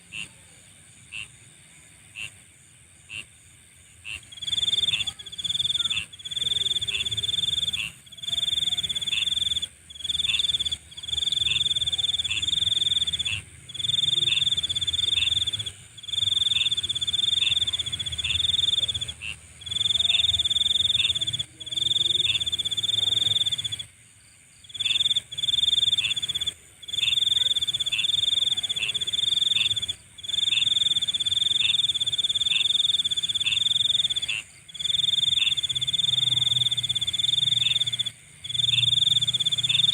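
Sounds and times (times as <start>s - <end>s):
insect buzz: 0.0s - 39.9s
insect trilling: 4.1s - 23.9s, 24.6s - 39.9s.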